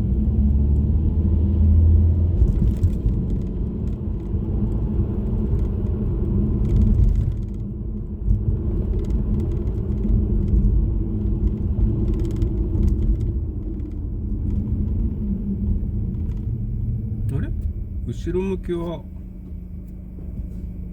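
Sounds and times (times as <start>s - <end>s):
car engine and road rumble: 0.0s - 20.9s.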